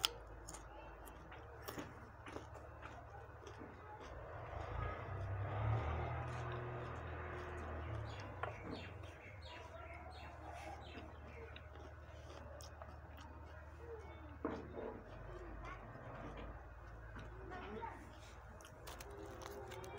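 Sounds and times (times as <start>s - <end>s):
birds chirping: 3.7s - 19.9s.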